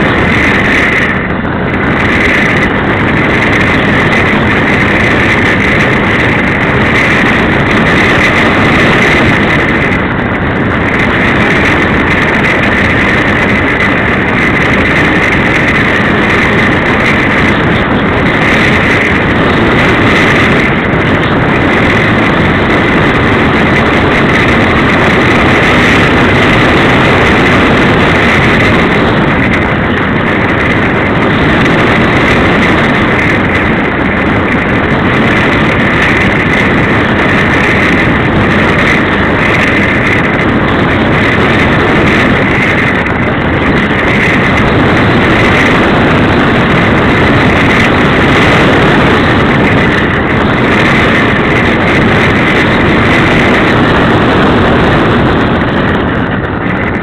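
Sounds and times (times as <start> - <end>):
loud wind rush: 0.0 - 57.0.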